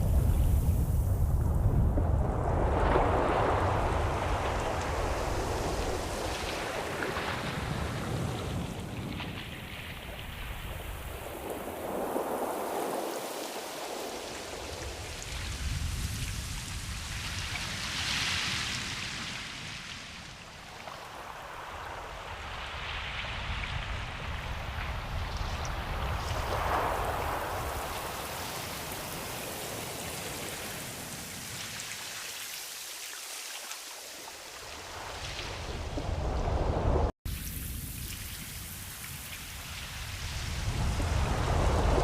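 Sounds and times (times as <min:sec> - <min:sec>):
ocean waves washing in: 0:00.0 - 0:42.0.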